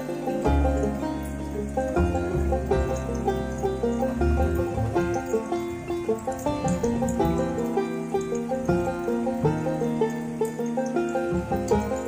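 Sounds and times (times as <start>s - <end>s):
plucked-string notes: 0.0s - 12.0s.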